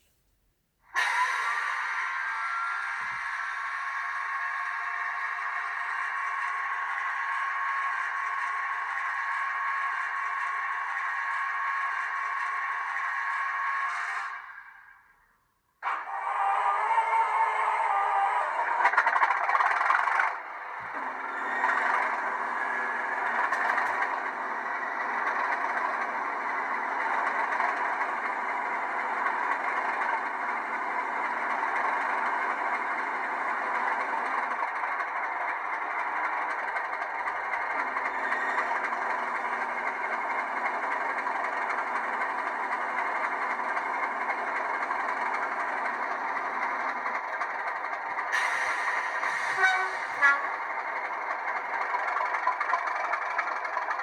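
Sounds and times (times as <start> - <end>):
diesel engine through tiny speaker: 1.0 - 14.9, 15.8 - 54.0.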